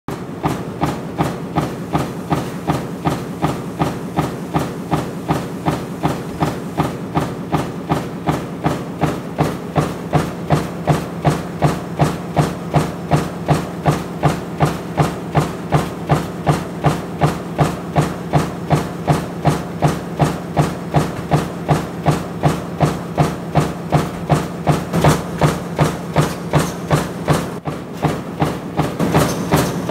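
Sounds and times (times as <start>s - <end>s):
punch press striking: 0.1s - 29.9s.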